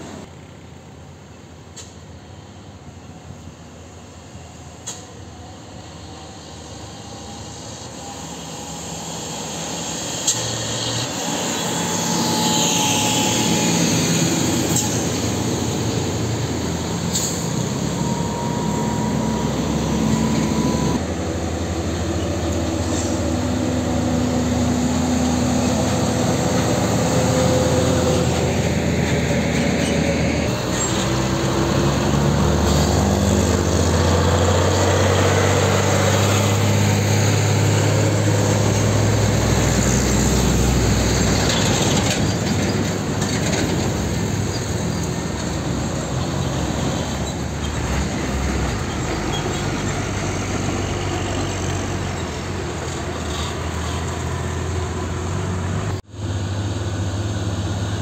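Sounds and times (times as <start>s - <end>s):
diesel trucks driving past: 0.0s - 58.0s
tyre and road noise: 4.8s - 58.0s.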